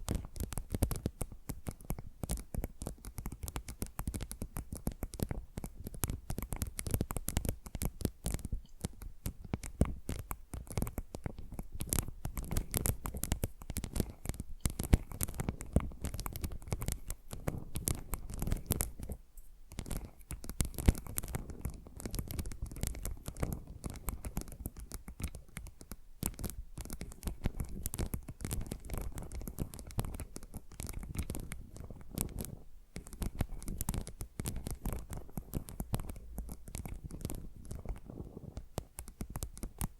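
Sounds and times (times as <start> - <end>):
fingernail scratching and tapping: 0.0 - 39.9.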